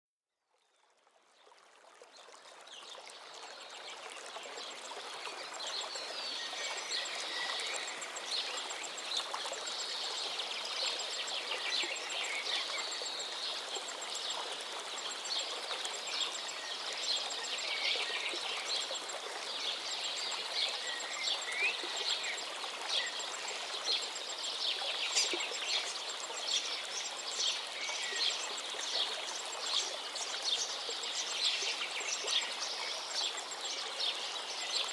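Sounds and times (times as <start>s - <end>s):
stream flowing: 0.8s - 34.9s.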